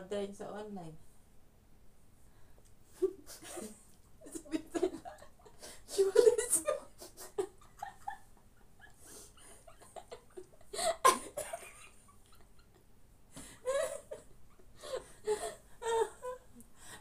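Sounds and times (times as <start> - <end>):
women laughing: 3.0 - 16.6.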